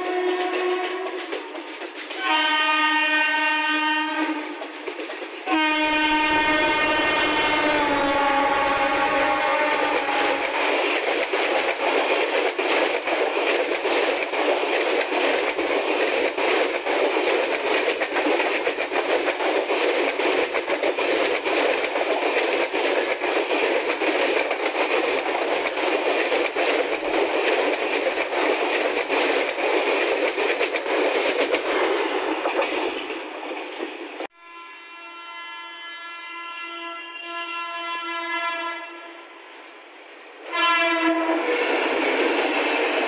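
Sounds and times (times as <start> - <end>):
train coaches rolling past: 0.0 - 43.0.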